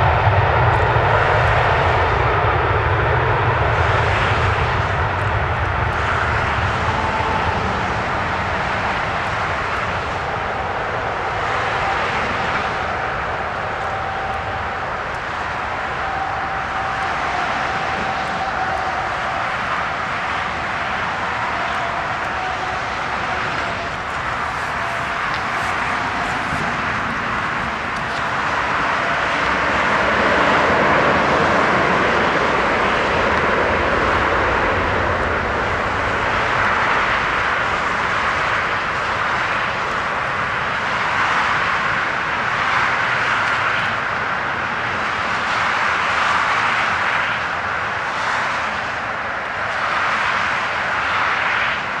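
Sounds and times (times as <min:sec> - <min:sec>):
jet airliner climbing: 0:00.0 - 0:52.0.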